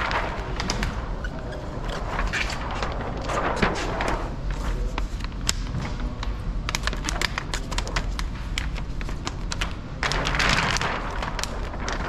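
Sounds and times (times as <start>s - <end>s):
paper liner crackling: 0.0s - 12.0s
steady low hum: 0.0s - 12.0s.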